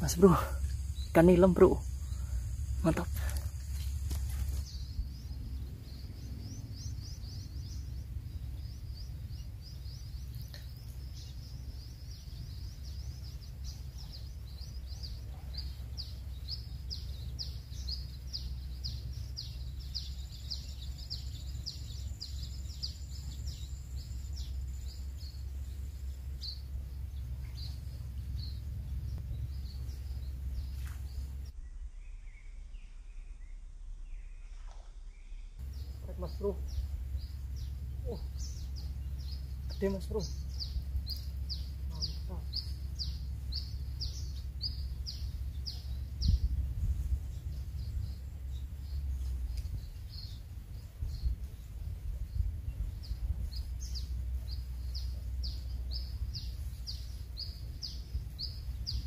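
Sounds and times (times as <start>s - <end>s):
bird singing: 0.0s - 59.0s
low rumble: 0.0s - 59.0s.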